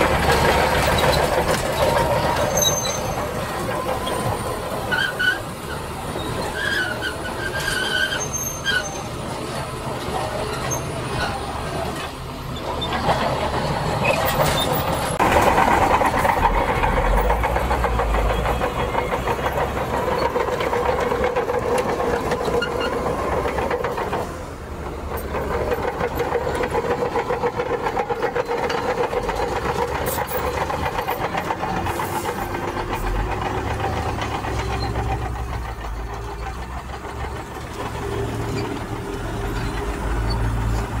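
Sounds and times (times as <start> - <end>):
diesel earthmoving machinery running: 0.0 - 41.0.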